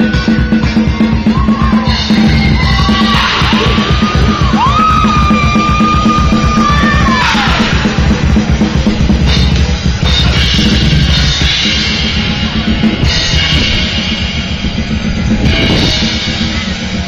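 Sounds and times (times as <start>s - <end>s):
driving bass drum beat: 0.0s - 17.0s.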